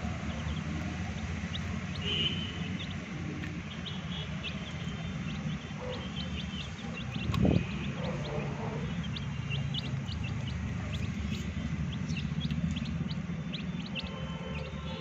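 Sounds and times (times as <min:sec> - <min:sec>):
steady low rumble: 0:00.0 - 0:14.7
chicks peeping: 0:00.0 - 0:15.0.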